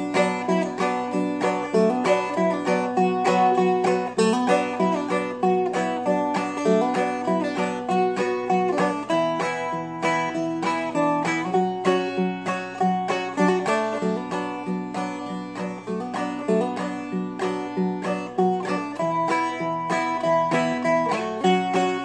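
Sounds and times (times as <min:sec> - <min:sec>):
flatpicked dulcimer melody: 0:00.0 - 0:22.0.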